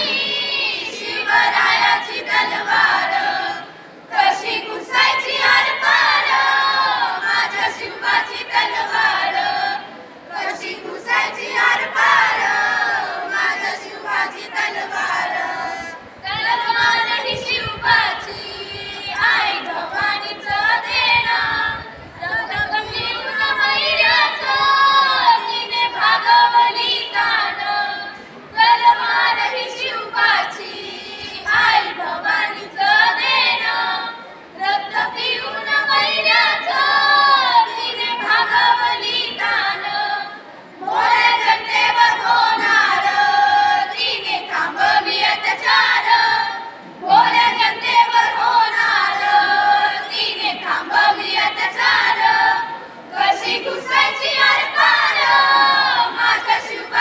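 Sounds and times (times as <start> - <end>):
children singing in unison: 0.0 - 57.0.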